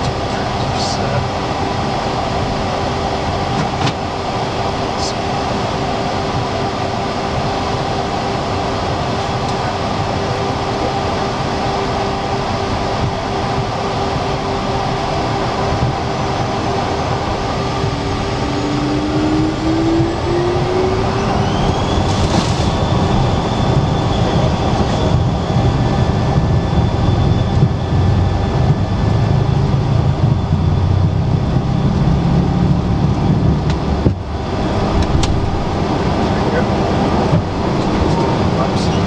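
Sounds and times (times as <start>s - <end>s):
heavy rumble: 0.0s - 39.0s
jet engine whine: 0.0s - 39.0s.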